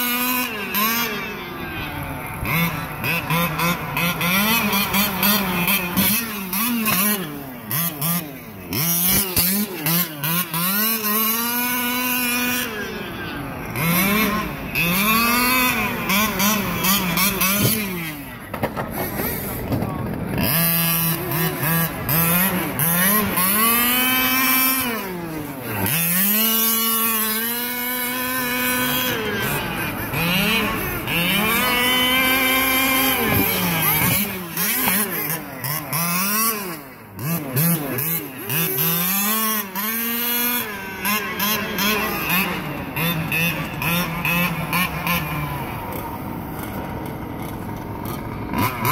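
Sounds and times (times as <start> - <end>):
rc car motor revving: 0.0 - 48.9.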